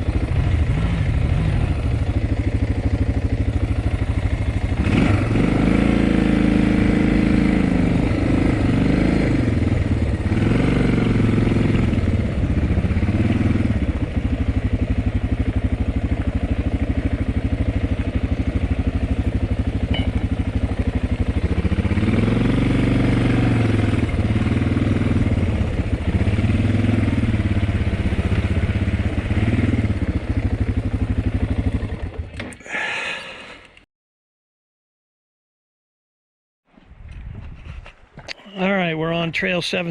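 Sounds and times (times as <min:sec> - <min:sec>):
dirt bike engine revving: 0:00.0 - 0:33.2.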